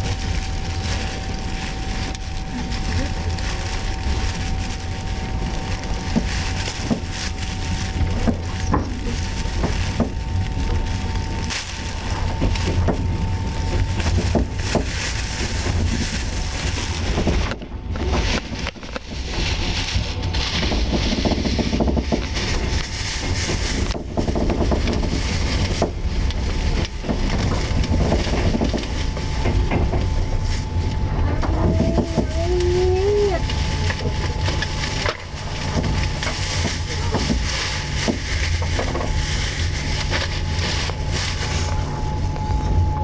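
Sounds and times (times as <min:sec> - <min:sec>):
faint steady whine: 0:00.0 - 0:43.0
train wheels rumbling on rails: 0:00.0 - 0:43.0.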